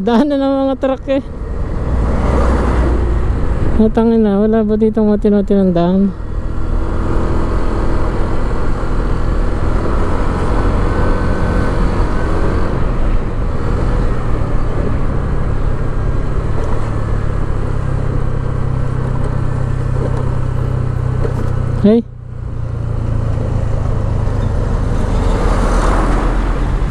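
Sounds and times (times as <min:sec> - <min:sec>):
road noise: 0:00.0 - 0:26.9
wind: 0:00.0 - 0:26.9.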